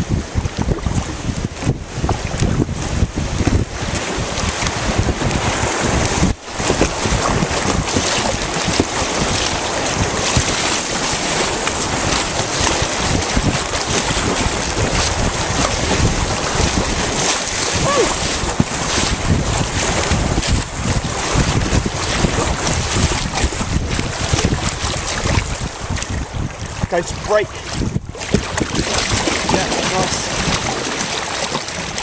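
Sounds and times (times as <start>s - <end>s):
paddle splashing: 0.0s - 32.0s
white water rushing: 0.0s - 32.0s
wind buffeting microphone: 0.0s - 32.0s.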